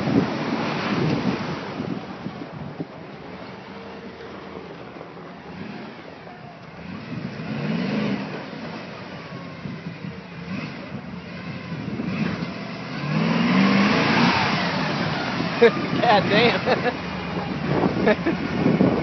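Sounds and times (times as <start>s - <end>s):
car engine revving: 3.4s - 19.0s.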